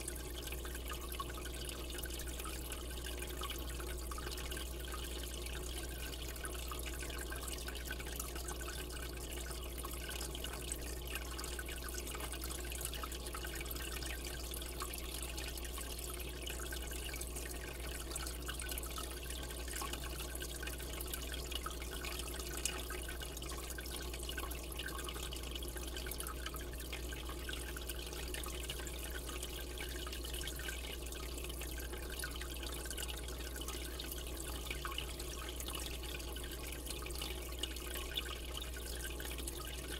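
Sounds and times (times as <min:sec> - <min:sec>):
low steady hum: 0:00.0 - 0:39.9
water trickling and splashing: 0:00.0 - 0:39.9.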